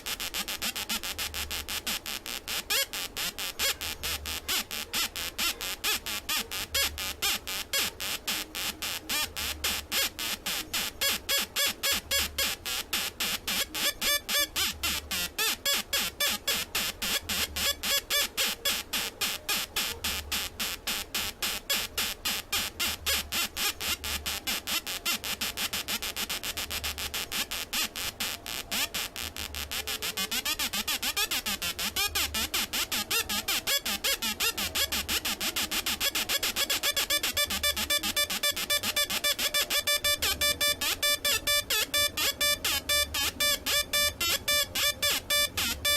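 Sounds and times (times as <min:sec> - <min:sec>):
buzzy pulsing synthesizer tone: 0:00.0 - 0:45.9.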